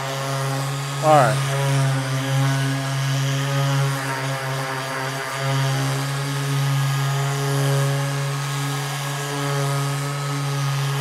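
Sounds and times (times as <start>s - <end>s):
power sander running: 0.2s - 11.0s.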